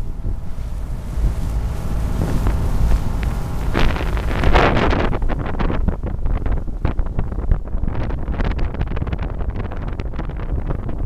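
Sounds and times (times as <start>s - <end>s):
water splashing against hull: 0.0s - 11.0s
wind buffeting microphone: 0.0s - 11.0s.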